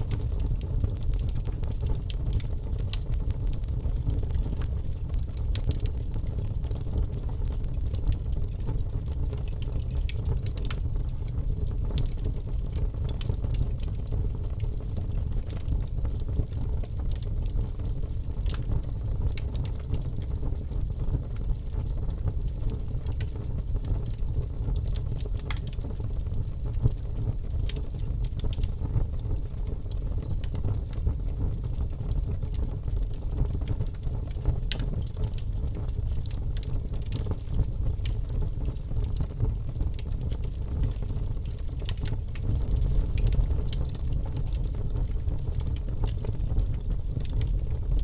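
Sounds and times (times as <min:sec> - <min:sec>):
low rumble of flame: 0:00.0 - 0:48.0
wood crackling and popping: 0:00.0 - 0:48.0.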